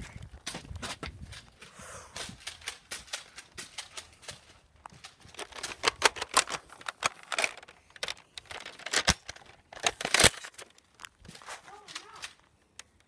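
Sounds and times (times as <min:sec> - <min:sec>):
footsteps on dirt and dry leaves: 0:00.0 - 0:07.5, 0:08.7 - 0:12.6.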